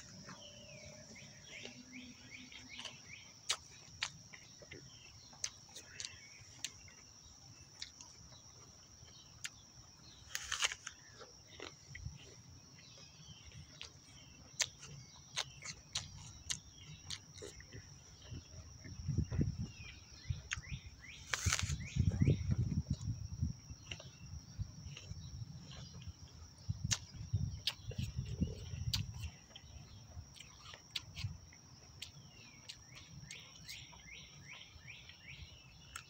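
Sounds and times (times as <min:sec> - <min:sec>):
person chewing a crisp apple: 0:00.0 - 0:34.2, 0:35.8 - 0:36.0.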